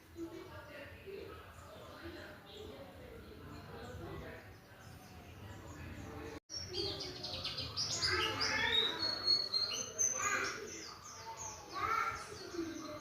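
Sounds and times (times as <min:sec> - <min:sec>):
bird twittering song: 0:01.5 - 0:13.0.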